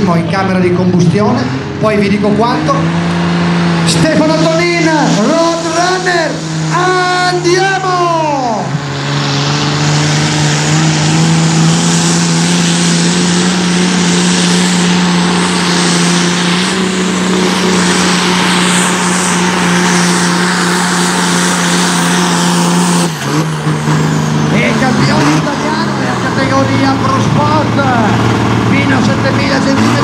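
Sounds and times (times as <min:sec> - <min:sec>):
heavy exhaust noise: 0:00.0 - 0:30.0
tractor engine running flat out: 0:00.0 - 0:30.0.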